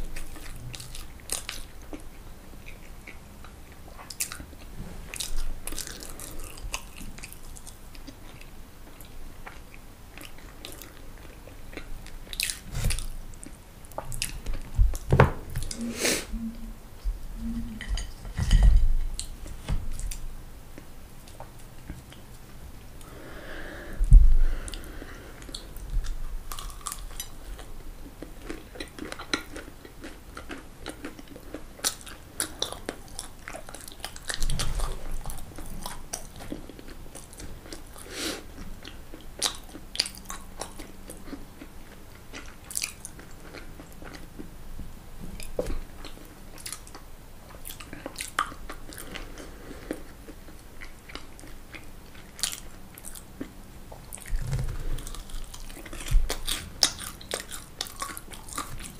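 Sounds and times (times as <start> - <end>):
chewing crunchy food: 0.0 - 15.8, 24.6 - 44.6, 45.2 - 58.9.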